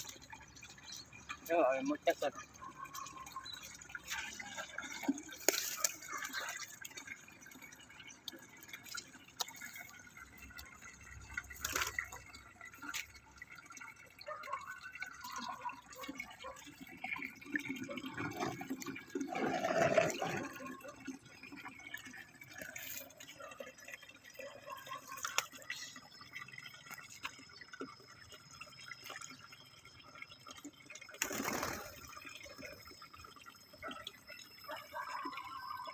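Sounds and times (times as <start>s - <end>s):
water dripping and splashing: 0.0s - 35.9s.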